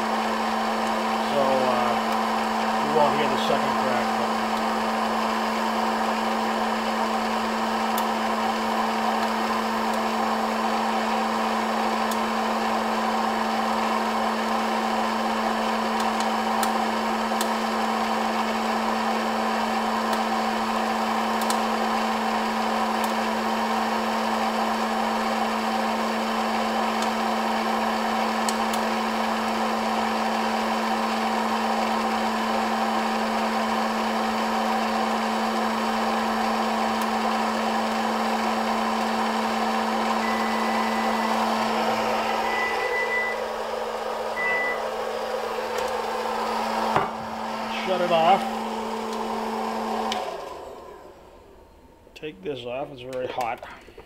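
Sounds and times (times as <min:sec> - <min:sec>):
popcorn popper fan whir: 0:00.0 - 0:52.2.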